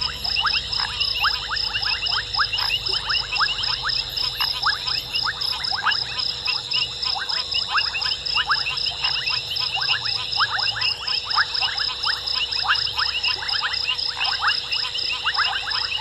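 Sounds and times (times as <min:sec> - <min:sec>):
frogs calling: 0:00.0 - 0:16.0.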